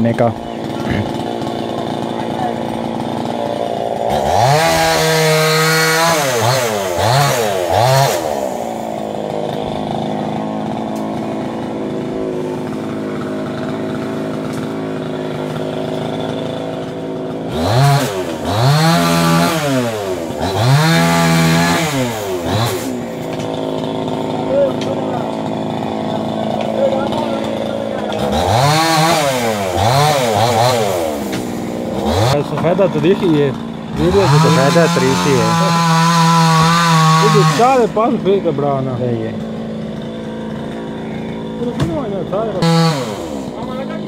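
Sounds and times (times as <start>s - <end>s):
chainsaw cutting and revving: 0.0s - 44.0s.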